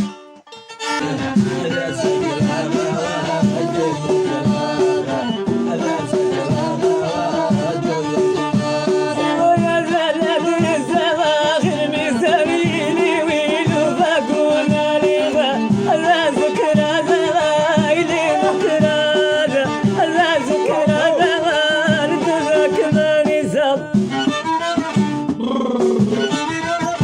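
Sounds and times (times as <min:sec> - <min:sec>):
acoustic folk music: 0:00.0 - 0:27.0.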